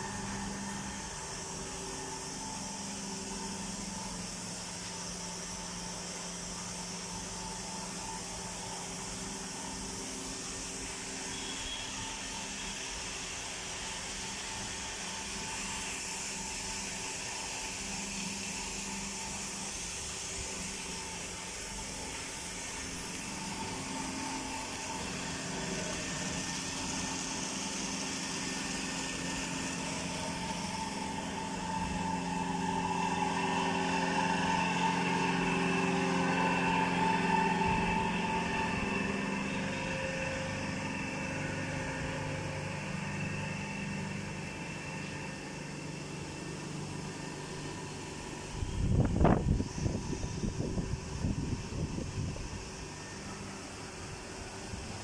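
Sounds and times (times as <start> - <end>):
hiss: 0.0 - 55.0
machinery humming with held tones: 0.0 - 55.0.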